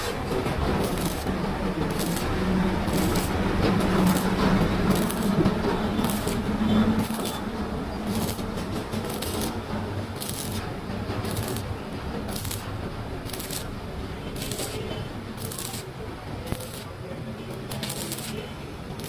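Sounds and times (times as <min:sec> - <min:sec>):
welding arc crackling and sizzling: 0:00.0 - 0:19.0.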